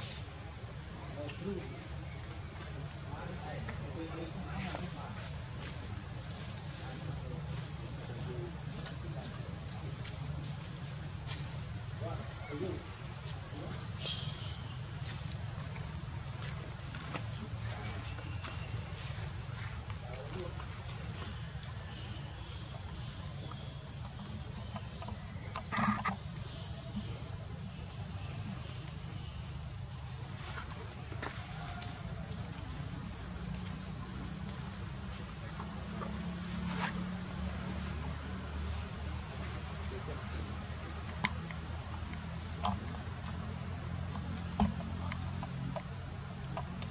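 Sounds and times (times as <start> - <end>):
forest insects chorus: 0.0 - 46.9.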